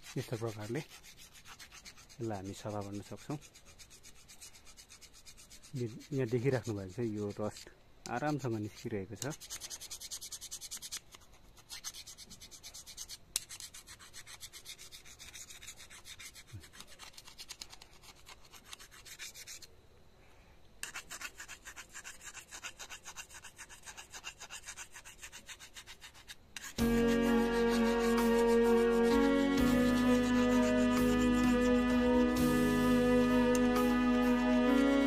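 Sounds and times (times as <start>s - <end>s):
hand file rasping on metal blade: 0.0s - 19.7s, 20.8s - 33.8s.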